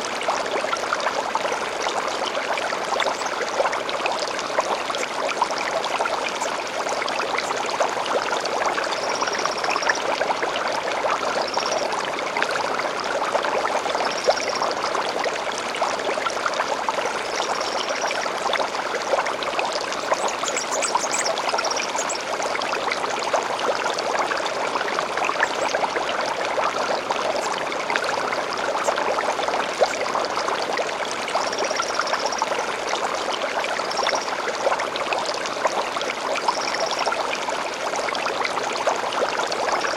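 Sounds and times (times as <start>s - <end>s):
shallow stream flowing: 0.0s - 39.9s.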